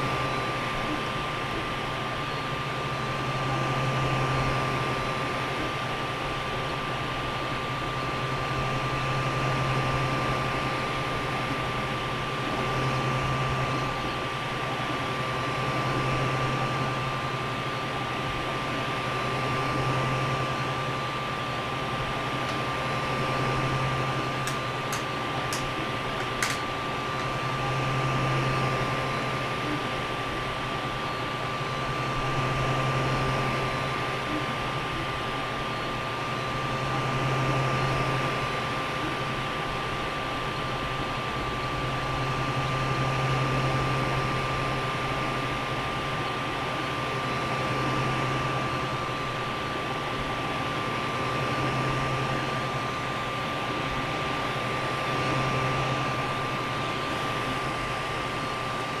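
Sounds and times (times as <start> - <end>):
fan whir with high tone: 0.0 - 59.0.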